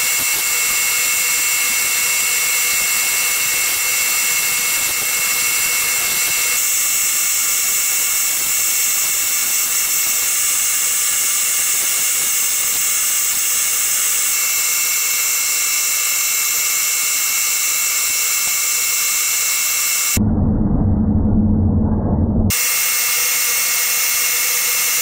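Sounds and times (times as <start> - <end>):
lathe whine: 0.0 - 20.2, 22.5 - 25.0
tool cutting plastic hiss: 0.0 - 20.2, 22.5 - 25.0.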